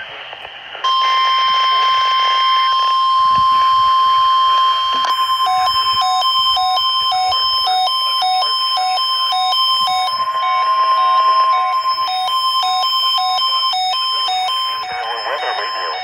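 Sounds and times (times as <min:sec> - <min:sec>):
pulsing beeps: 0:00.8 - 0:16.0
steady loud alarm tone: 0:00.8 - 0:16.0.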